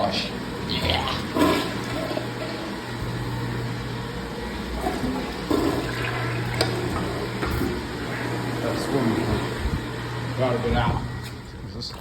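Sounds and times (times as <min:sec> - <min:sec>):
toilet flushing: 0:00.0 - 0:10.6.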